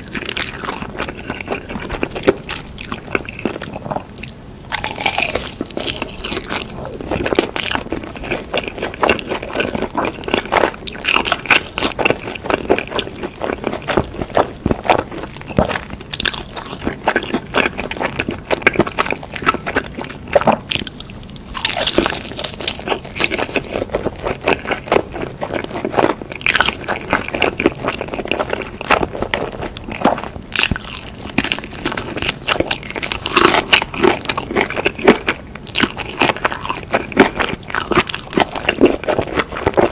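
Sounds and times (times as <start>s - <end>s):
wet chewing with crunchy bites: 0.0s - 39.9s.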